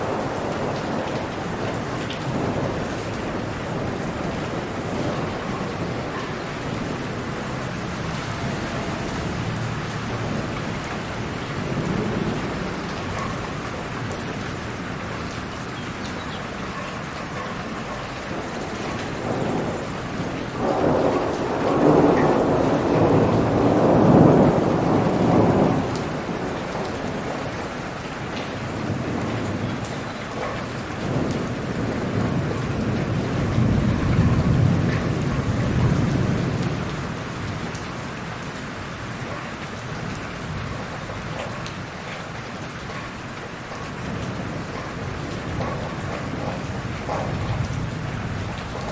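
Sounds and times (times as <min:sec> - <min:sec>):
heavy rain falling: 0:00.0 - 0:48.9
thunder rumbling: 0:00.0 - 0:48.9.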